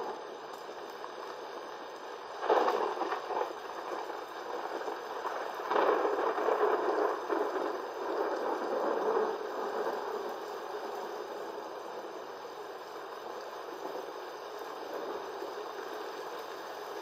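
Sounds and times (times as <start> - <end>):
rain rushing: 0.0 - 17.0
wind: 0.0 - 17.0.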